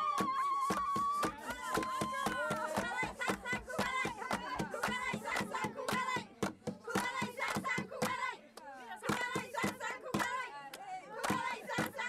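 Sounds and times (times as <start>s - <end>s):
hands clapping in rhythm: 0.0s - 12.0s
women singing together: 0.0s - 12.0s.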